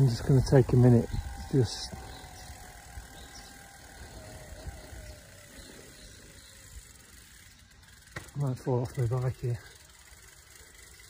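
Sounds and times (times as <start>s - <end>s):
bicycle freewheel ticking: 0.0s - 11.0s
low road rumble: 0.0s - 11.0s.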